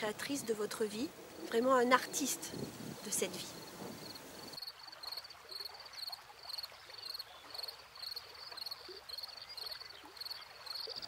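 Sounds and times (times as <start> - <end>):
faint outdoor hiss: 0.0 - 11.0
insect chirping: 0.0 - 11.0.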